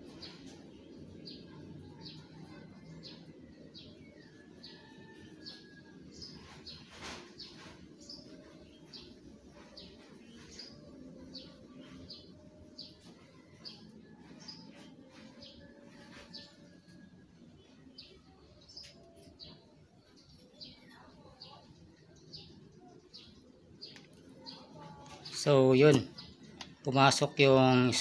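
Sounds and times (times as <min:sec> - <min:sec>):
small bird chirping: 0:00.0 - 0:26.8.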